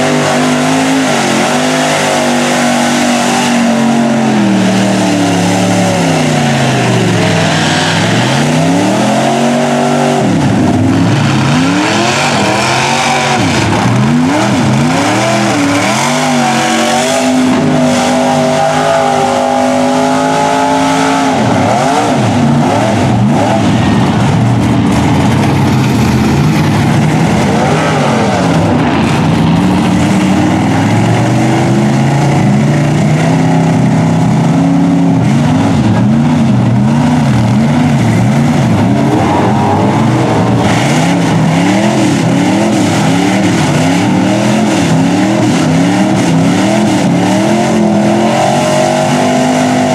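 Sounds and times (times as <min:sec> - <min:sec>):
tires churning through mud: 0:00.0 - 0:49.9
truck engine revving: 0:00.0 - 0:49.9.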